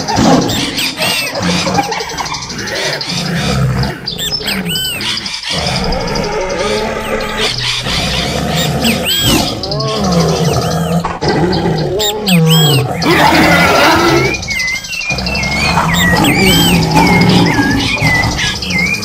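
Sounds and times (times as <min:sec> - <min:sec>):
high squealing animal calls: 0:00.0 - 0:19.0
low growling roars: 0:02.6 - 0:19.0.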